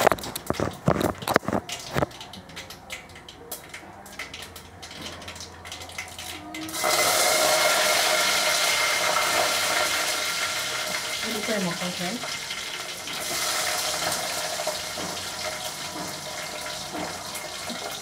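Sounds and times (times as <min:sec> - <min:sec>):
hot oil sizzling in pan: 0:02.9 - 0:18.0.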